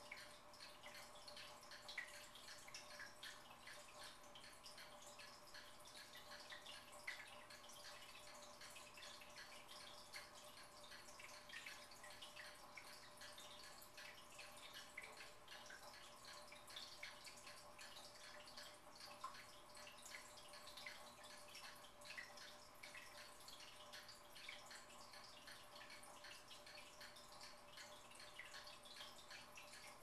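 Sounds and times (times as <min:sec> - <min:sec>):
faint steady hum: 0:00.0 - 0:30.0
fish tank drips and bubbles: 0:00.0 - 0:30.0.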